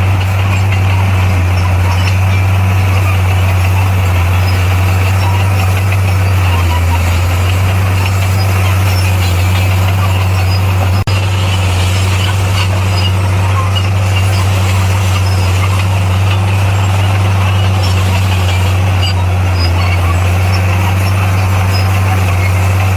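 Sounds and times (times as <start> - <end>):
diesel machine engine droning: 0.0 - 22.9.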